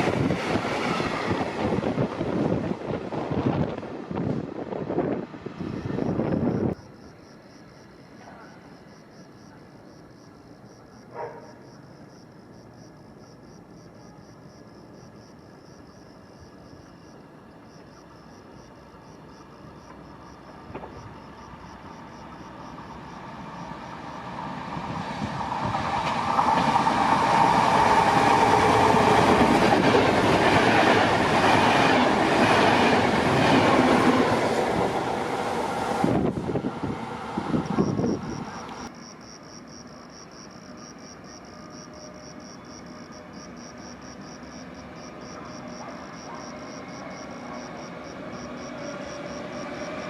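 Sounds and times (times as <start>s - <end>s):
train passing at speed: 0.0s - 6.9s, 10.9s - 50.0s.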